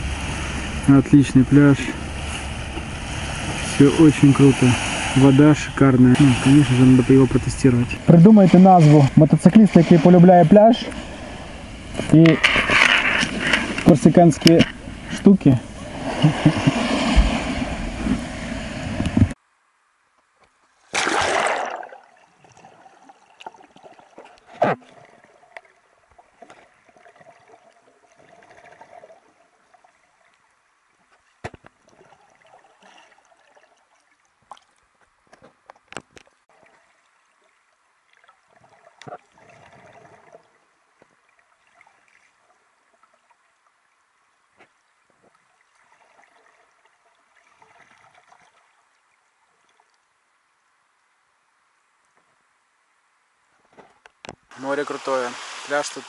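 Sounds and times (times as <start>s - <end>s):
sea water gurgling and splashing: 0.0s - 19.4s, 20.8s - 35.0s, 36.2s - 44.2s, 45.0s - 50.1s, 54.5s - 56.0s.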